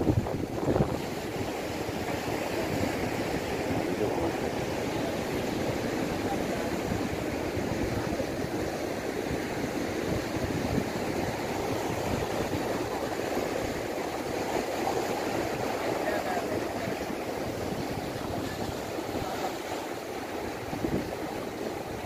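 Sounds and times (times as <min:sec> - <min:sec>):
surf breaking on rocks: 0:00.0 - 0:22.0.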